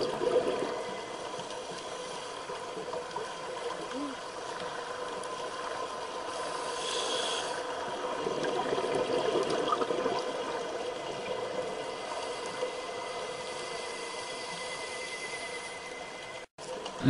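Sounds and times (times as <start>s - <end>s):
underwater water noise: 0.0s - 17.0s.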